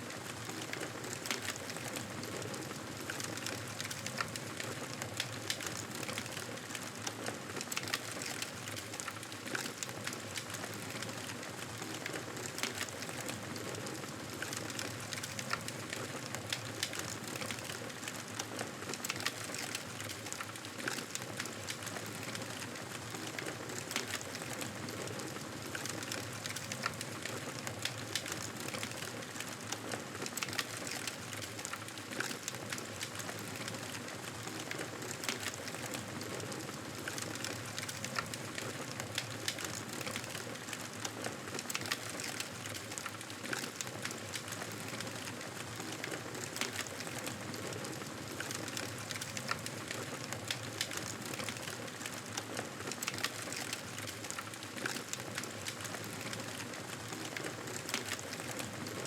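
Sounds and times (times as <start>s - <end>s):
fire crackling and popping: 0.1s - 59.0s.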